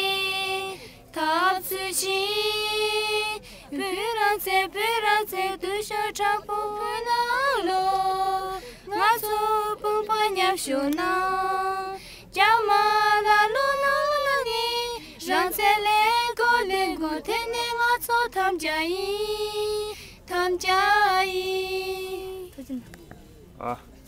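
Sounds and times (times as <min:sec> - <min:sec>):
two women singing unaccompanied: 0:00.0 - 0:22.8.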